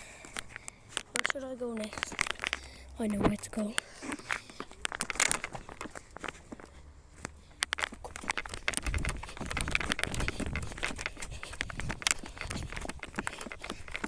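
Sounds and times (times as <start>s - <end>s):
footsteps with crackles underfoot: 0.0s - 14.0s.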